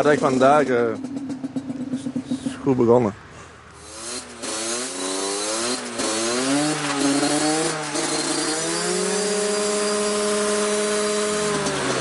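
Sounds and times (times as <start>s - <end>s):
moped engine revving: 0.0s - 12.0s.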